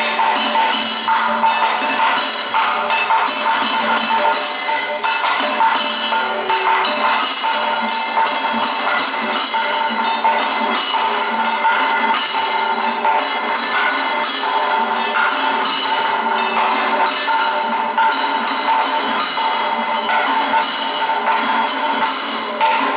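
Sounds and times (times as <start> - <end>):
metal percussion ringing: 0.0 - 22.9
rapid drum strokes: 0.0 - 22.9.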